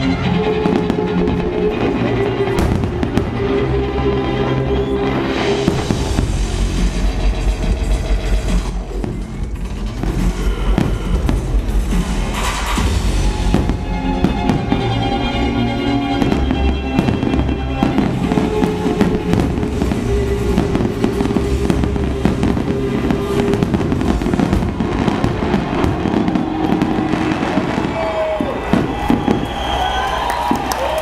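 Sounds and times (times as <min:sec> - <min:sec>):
fireworks bangs and crackling: 0:00.0 - 0:31.0
music playing: 0:00.0 - 0:31.0.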